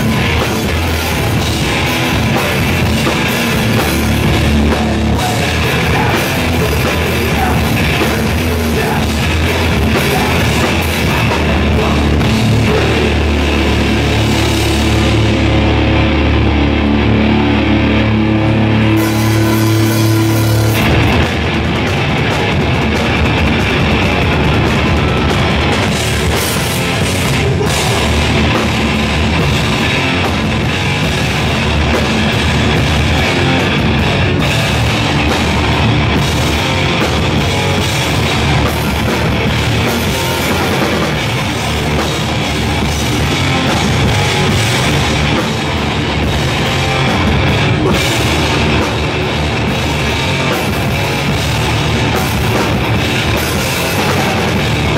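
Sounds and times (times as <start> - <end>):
hardcore band playing live: 0.0 - 54.9.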